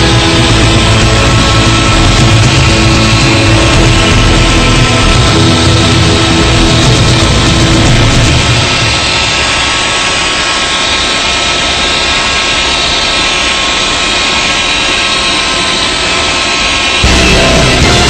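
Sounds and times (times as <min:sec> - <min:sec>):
electric drill mixer whine: 0:00.0 - 0:18.0.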